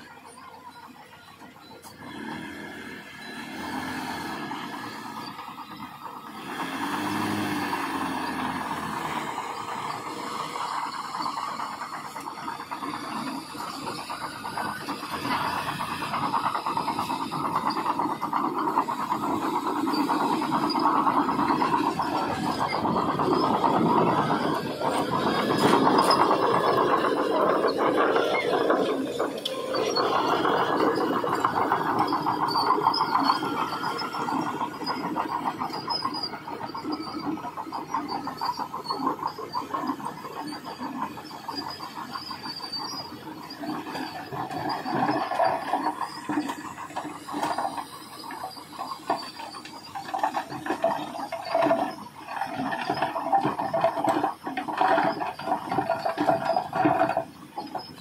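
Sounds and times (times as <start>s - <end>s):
heavy earthmoving machinery: 0.0s - 58.0s.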